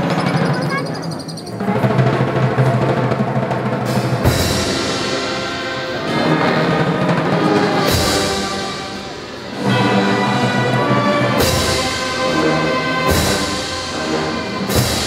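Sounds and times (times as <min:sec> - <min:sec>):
drum roll: 0:00.0 - 0:15.0
brass band funeral march: 0:01.6 - 0:15.0.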